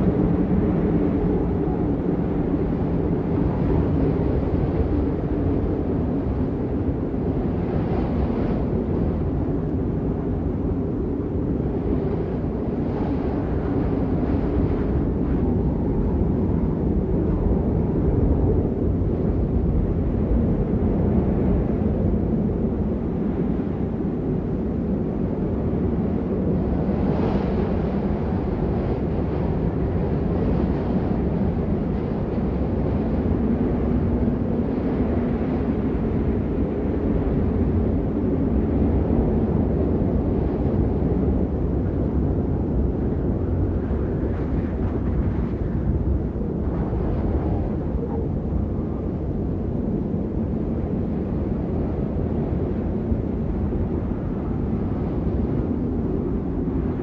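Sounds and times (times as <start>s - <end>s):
blizzard wind gusting: 0.0s - 57.0s.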